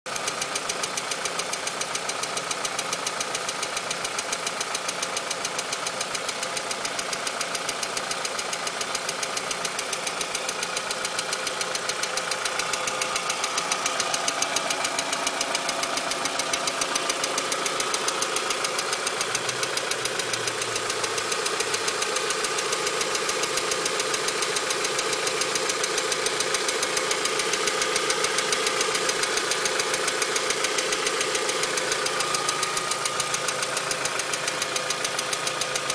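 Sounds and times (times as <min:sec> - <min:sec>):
rapid even engine ticking: 0:00.1 - 0:35.9
car engine running: 0:05.6 - 0:35.9.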